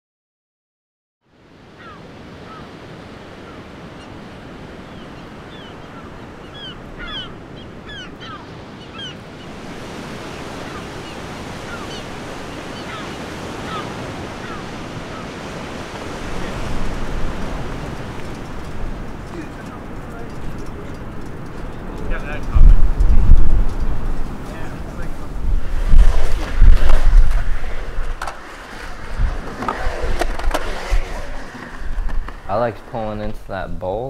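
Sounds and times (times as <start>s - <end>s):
ocean surf washing: 1.3s - 34.0s.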